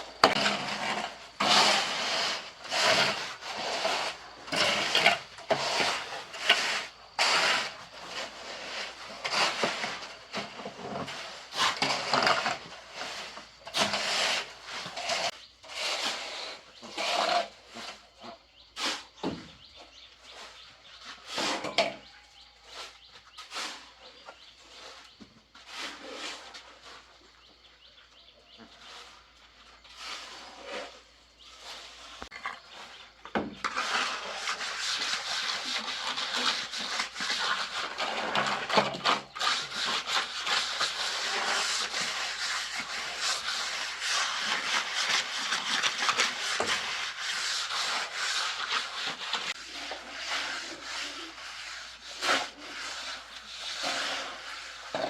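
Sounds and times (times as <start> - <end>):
shovel scraping heavy mix: 0.0 - 18.1, 22.7 - 27.3, 28.7 - 55.0.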